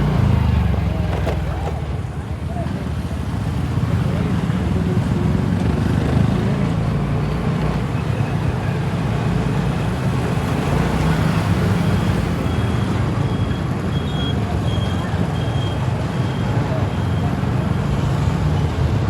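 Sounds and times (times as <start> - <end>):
scooter road noise: 0.0 - 19.0.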